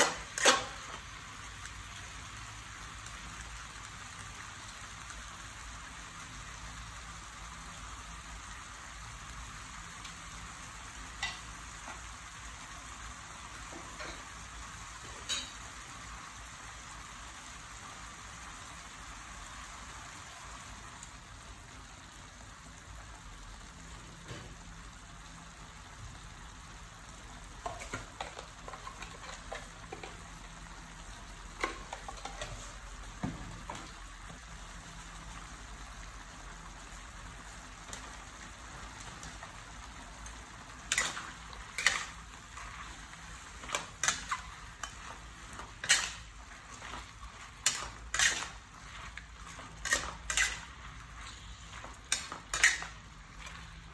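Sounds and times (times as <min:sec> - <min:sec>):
food sizzling in a wok: 0:00.0 - 0:53.9.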